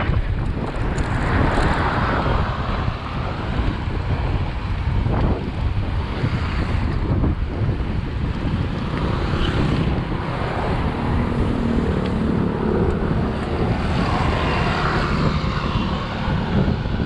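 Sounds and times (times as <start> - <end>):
motor traffic: 0.0 - 17.0
wind buffeting microphone: 0.0 - 17.0.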